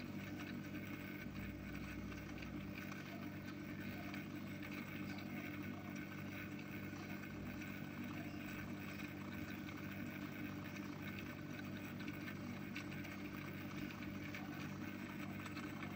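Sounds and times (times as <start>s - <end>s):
small electric motor humming: 0.0s - 15.9s.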